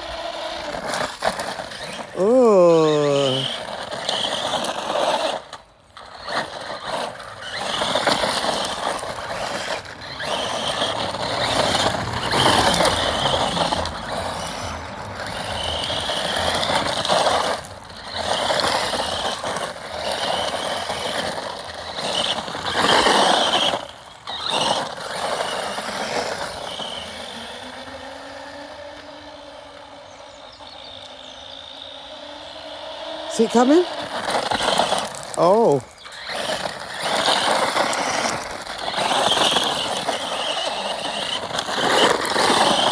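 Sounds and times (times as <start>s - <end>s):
electric toy car motor whine: 0.0s - 42.9s.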